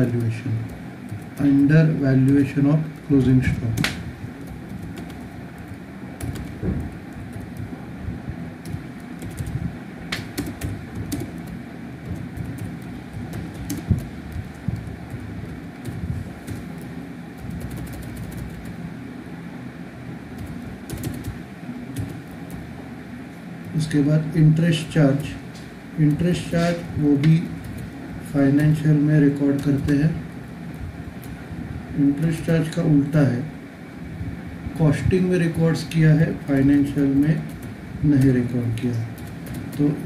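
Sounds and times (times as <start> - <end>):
low background noise: 0.0 - 40.0.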